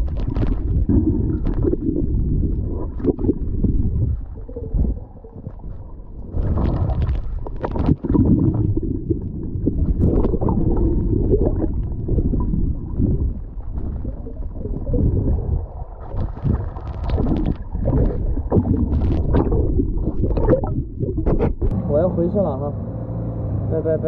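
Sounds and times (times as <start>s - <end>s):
underwater rumbling and gurgling: 0.0s - 21.8s.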